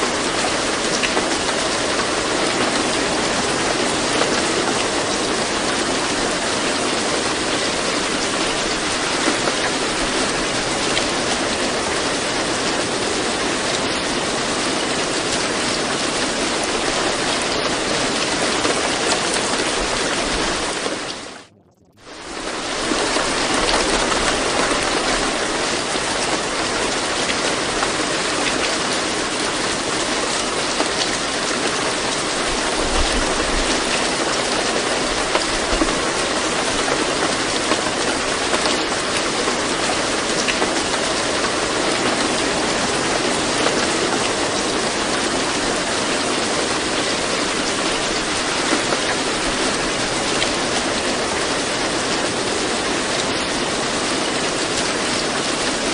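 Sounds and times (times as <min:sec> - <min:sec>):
steady rain hiss: 0:00.0 - 0:21.5, 0:22.1 - 0:55.9.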